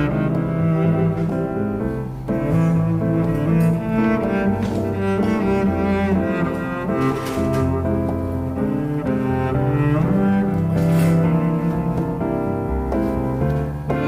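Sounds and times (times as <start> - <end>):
low bowed strings melody: 0.0 - 14.0.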